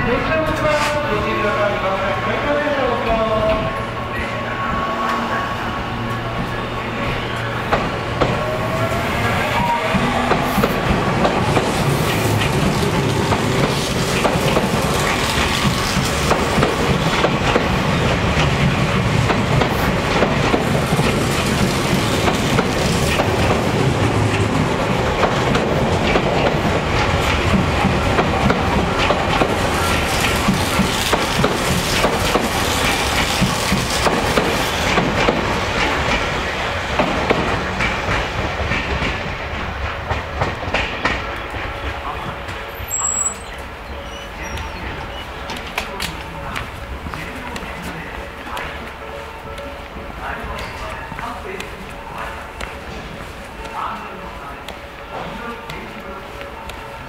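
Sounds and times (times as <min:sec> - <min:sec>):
train wheels clacking over rails: 0:05.8 - 0:57.0.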